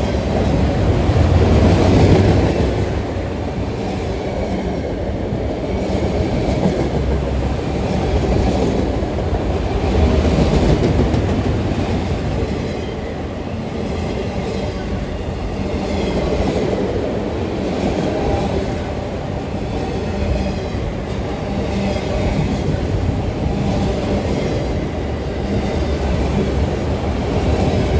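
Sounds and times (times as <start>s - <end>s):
freight train rumbling past: 0.0s - 27.9s.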